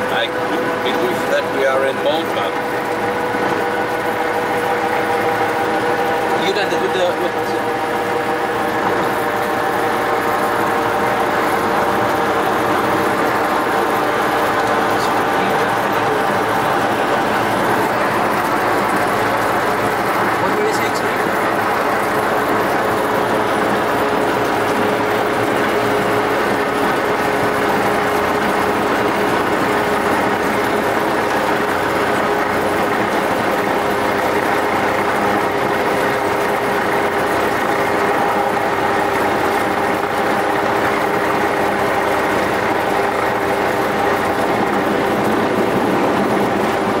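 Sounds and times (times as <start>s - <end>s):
light aircraft engine droning: 0.0s - 47.0s.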